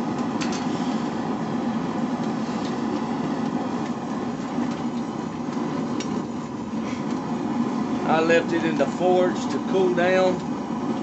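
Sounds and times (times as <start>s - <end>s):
forge low mechanical drone: 0.0s - 11.0s.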